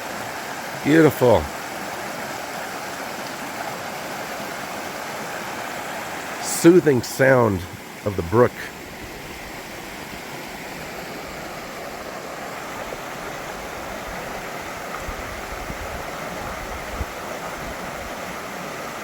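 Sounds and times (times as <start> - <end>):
brook babbling: 0.0 - 19.0.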